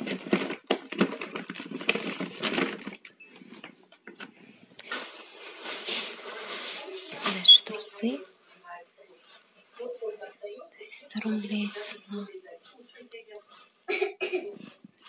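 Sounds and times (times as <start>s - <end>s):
plastic packaging crinkling: 0.0s - 3.6s, 4.8s - 13.9s.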